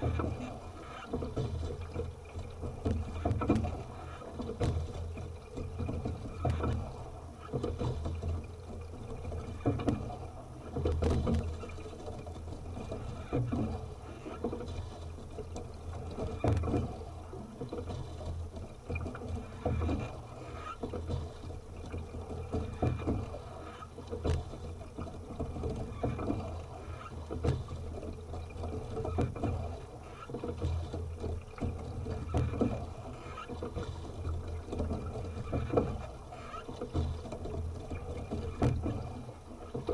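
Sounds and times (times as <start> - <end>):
oar blades splashing: 0.0 - 39.9.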